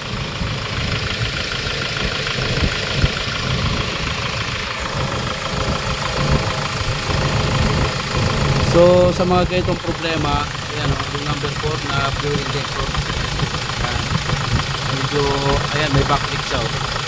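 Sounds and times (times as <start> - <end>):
diesel engine knocking: 0.0 - 17.0.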